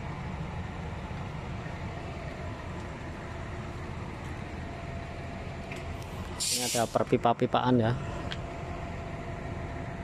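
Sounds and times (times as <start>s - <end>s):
diesel locomotive engine idling: 0.0s - 10.0s.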